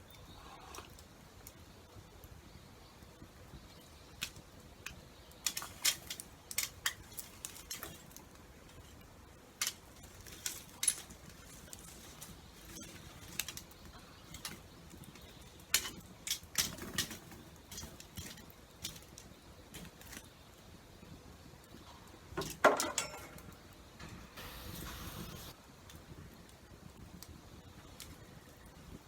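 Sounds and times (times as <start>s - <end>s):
campfire crackling: 0.0s - 29.0s
low steady hiss: 0.0s - 29.0s.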